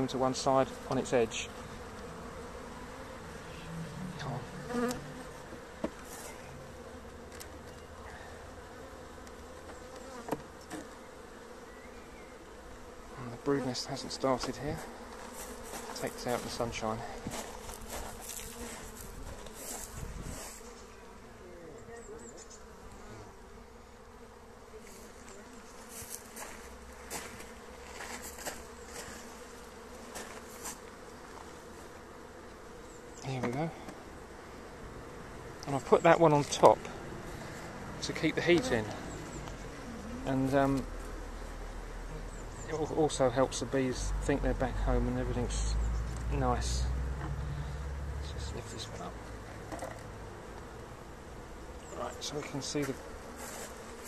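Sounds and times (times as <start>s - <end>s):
bees humming: 0.0s - 54.0s.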